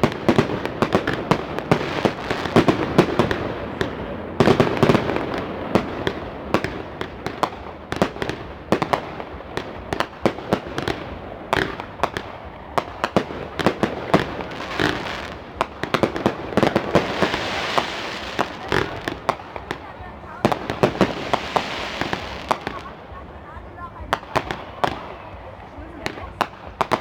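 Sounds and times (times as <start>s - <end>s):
continuous rumbling haze: 0.0s - 27.0s
fireworks bangs and crackles: 0.0s - 27.0s.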